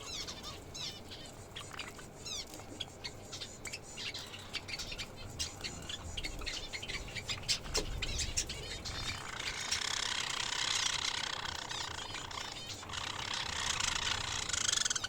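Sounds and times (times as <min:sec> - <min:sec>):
small birds chirping and squawking: 0:00.0 - 0:15.0.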